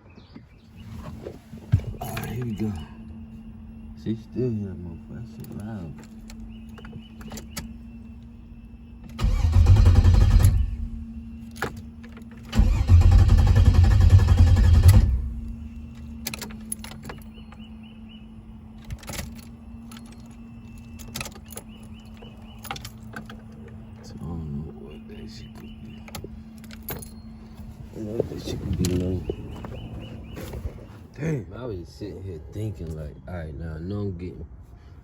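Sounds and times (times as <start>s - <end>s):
car engine cranking: 0.7s - 31.1s.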